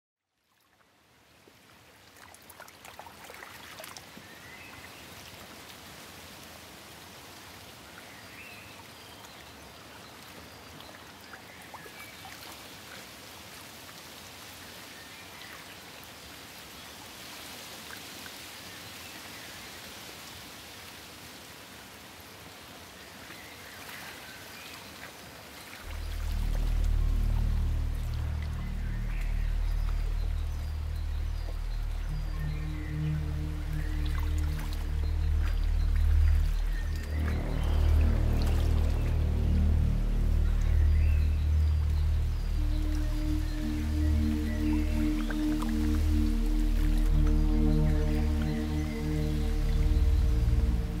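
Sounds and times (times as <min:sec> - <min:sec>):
water trickling and splashing: 0:00.3 - 0:51.0.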